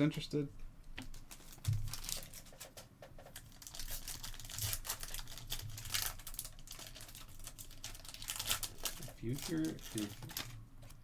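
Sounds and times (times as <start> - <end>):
foil wrappers crinkling: 1.1 - 2.8, 3.4 - 11.0.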